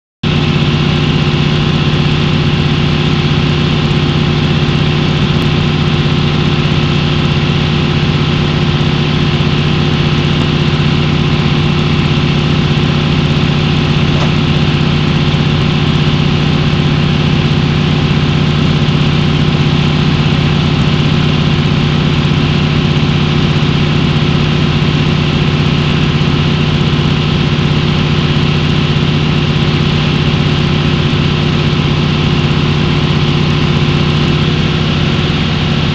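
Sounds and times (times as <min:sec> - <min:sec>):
large engine droning: 0:00.2 - 0:35.9.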